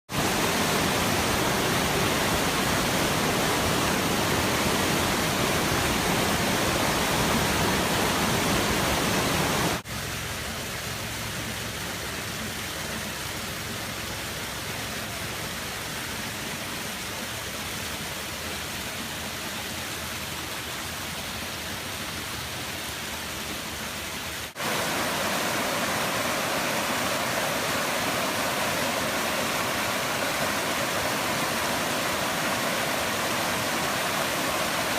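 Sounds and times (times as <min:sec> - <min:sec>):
waterfalls and streams rushing: 0:00.1 - 0:34.9.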